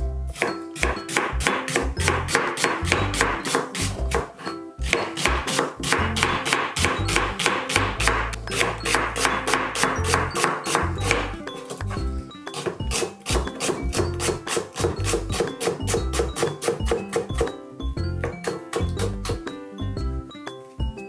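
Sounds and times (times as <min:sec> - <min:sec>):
background music with steady beat: 0:00.0 - 0:21.0.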